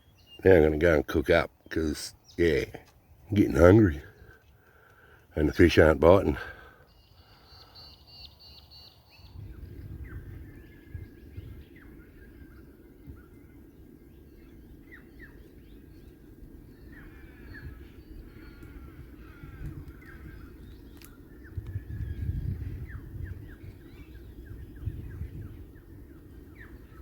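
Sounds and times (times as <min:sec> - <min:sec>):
wild birds calling: 0:00.0 - 0:27.0.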